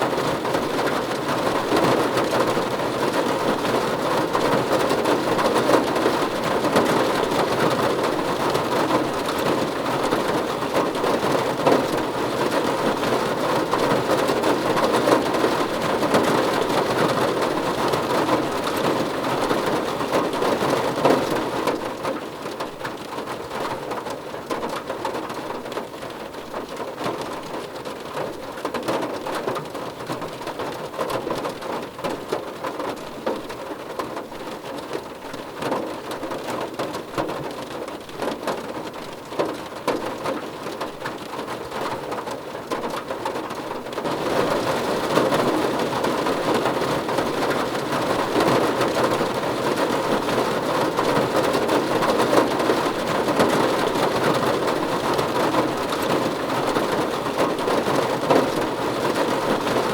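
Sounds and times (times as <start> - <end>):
rain on a car roof: 0.0 - 59.9.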